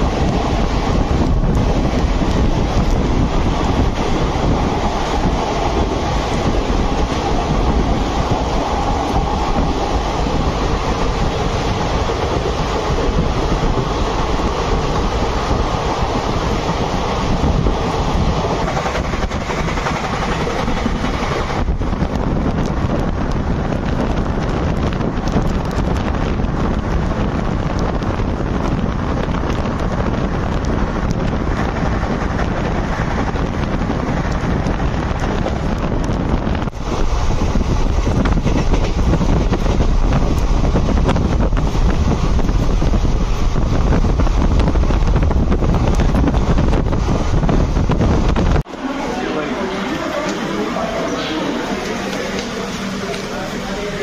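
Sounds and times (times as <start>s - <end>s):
train wheels clattering on rails: 0.0s - 48.7s
wind on microphone: 0.0s - 48.9s.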